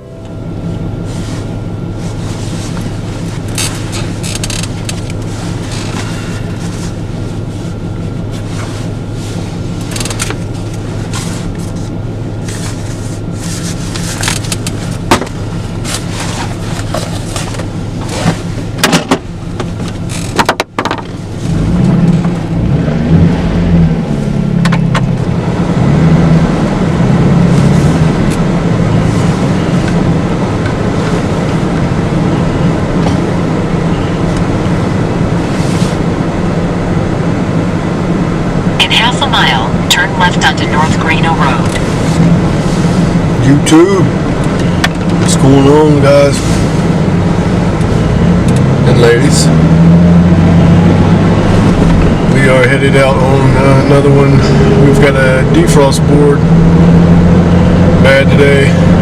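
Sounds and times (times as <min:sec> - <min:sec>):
vehicle rumble from inside cab: 0:00.0 - 0:59.0.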